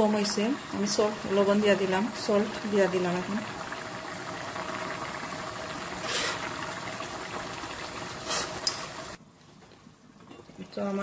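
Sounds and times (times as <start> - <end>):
pot boiling and bubbling: 0.0 - 9.2.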